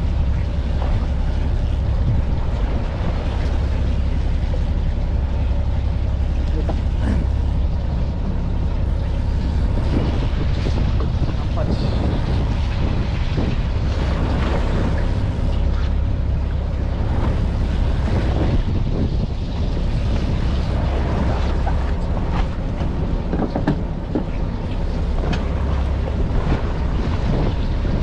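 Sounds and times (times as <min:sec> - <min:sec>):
boat engine rumbling: 0:00.0 - 0:28.0
knocks and splashes: 0:00.0 - 0:28.0
wind buffeting microphone: 0:00.0 - 0:28.0.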